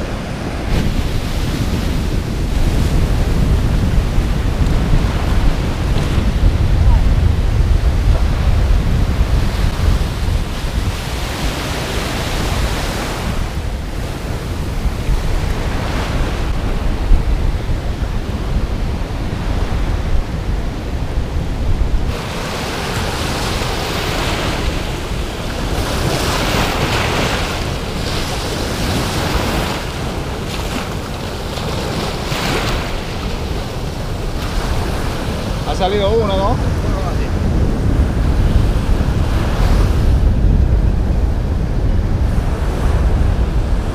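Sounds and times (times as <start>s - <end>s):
ocean surf on beach: 0.0s - 43.9s
wind buffeting microphone: 0.0s - 43.9s.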